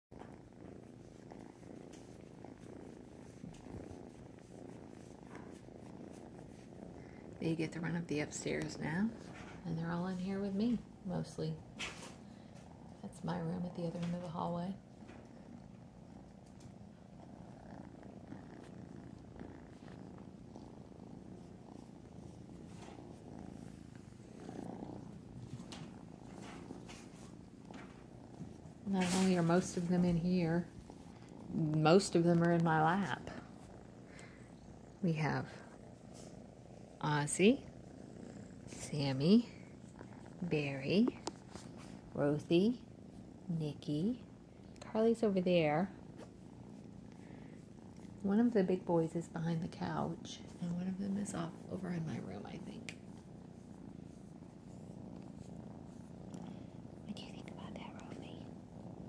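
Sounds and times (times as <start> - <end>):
faint rustles: 0.1 - 59.0
kitten purring: 0.1 - 59.0.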